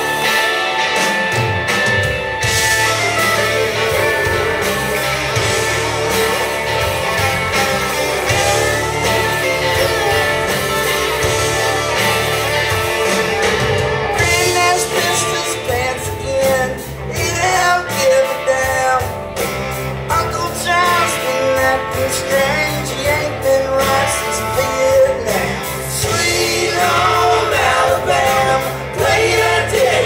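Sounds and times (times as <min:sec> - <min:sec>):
bass guitar: 0:00.0 - 0:30.0
drums: 0:00.0 - 0:30.0
electric guitars: 0:00.0 - 0:30.0.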